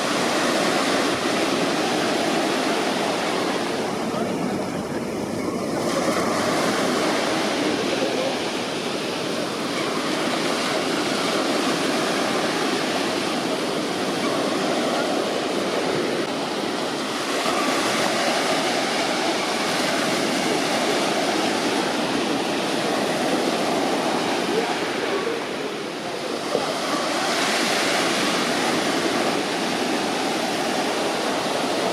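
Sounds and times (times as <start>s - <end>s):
sea waves breaking on shore: 0.0s - 31.9s.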